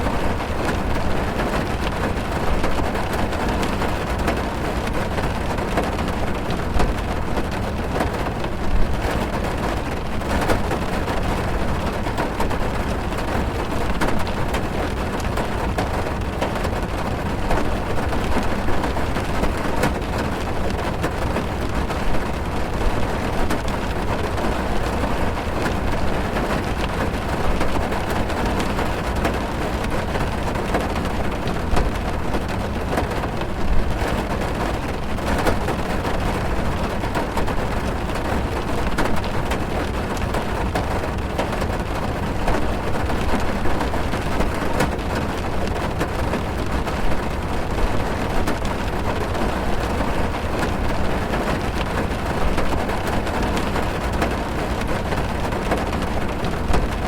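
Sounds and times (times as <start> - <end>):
rain drumming on car roof: 0.0 - 57.0.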